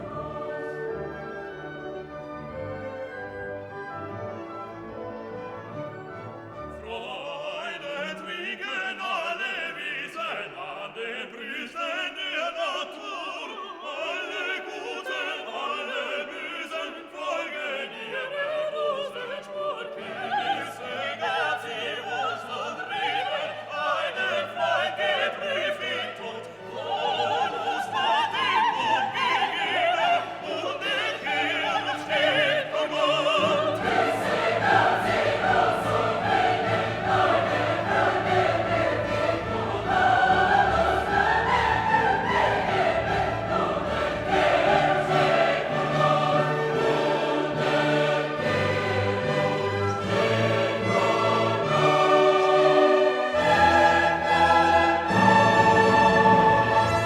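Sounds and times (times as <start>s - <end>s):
operatic singing: 0.0s - 3.9s, 6.5s - 57.0s
choir singing: 0.0s - 57.0s
orchestra: 0.0s - 57.0s.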